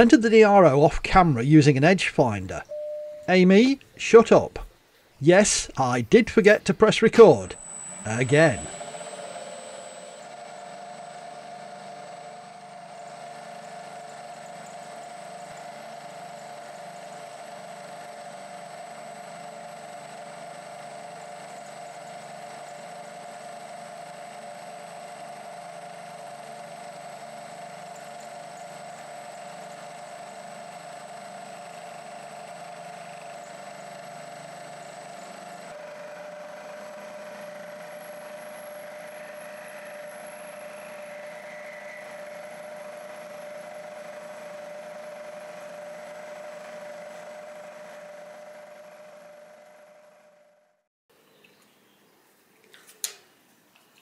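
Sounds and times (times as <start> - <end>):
milling machine whine: 5.3 - 50.8.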